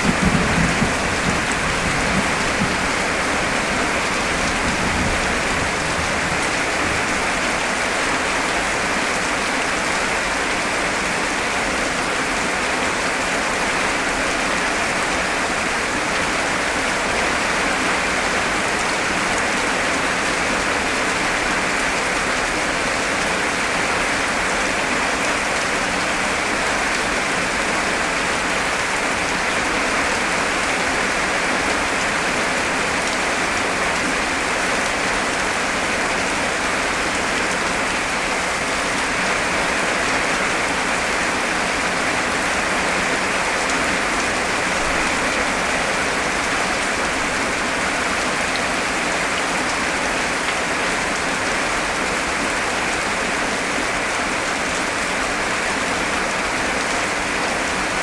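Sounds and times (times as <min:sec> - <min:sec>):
heavy rain downpour: 0:00.0 - 0:58.0.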